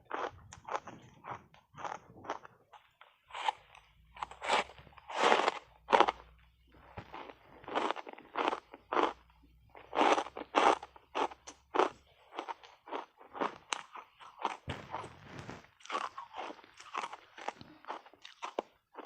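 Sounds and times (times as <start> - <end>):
ice being crunched and chewed: 0.0 - 19.0.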